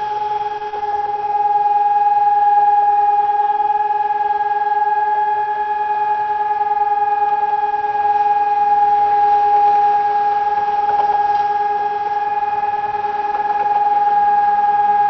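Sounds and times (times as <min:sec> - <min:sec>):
steady siren tone: 0:00.0 - 0:15.0.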